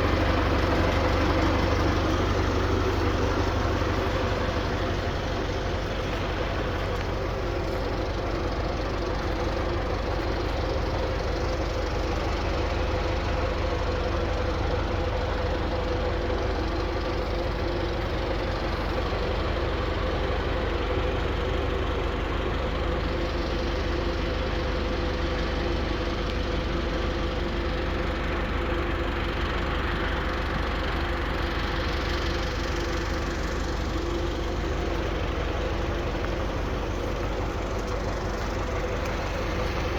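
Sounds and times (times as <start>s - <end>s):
round baler running: 0.0s - 39.9s
tractor engine running: 0.0s - 39.9s.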